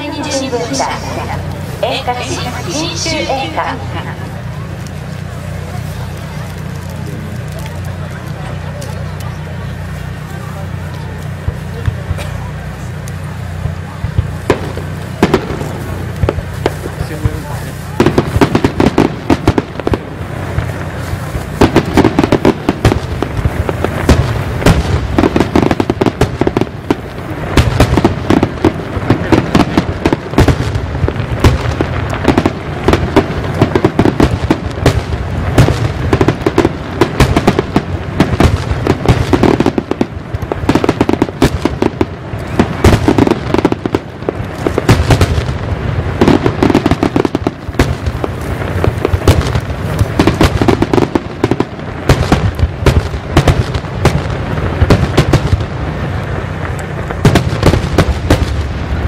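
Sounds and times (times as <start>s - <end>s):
low rumble: 0.0s - 50.6s
firework shells bursting: 0.0s - 58.7s.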